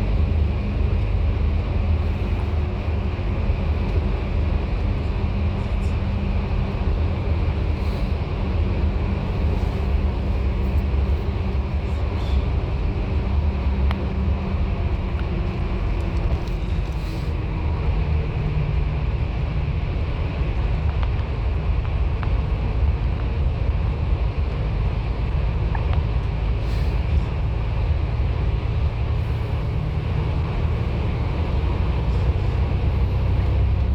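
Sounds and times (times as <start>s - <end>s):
bus engine drone: 0.0s - 33.9s
road noise: 0.0s - 33.9s.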